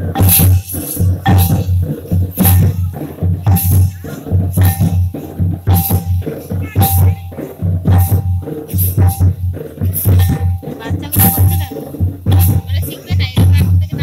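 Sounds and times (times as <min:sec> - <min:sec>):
folk dance drumming: 0:00.0 - 0:14.0
high rattling jingle: 0:00.0 - 0:14.0.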